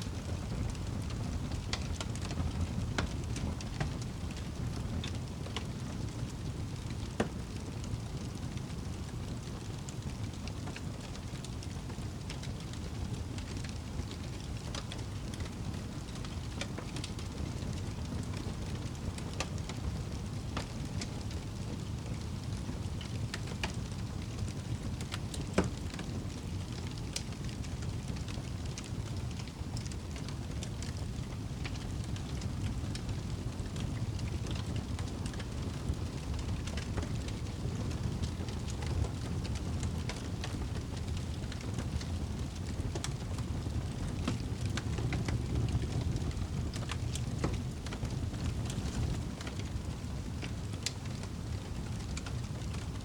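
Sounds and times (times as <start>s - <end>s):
campfire crackling and popping: 0.1s - 53.0s.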